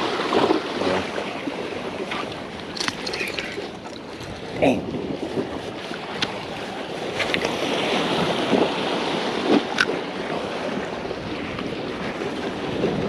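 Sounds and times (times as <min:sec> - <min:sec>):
small waves washing: 0:00.0 - 0:13.0
wind on microphone: 0:00.0 - 0:13.0.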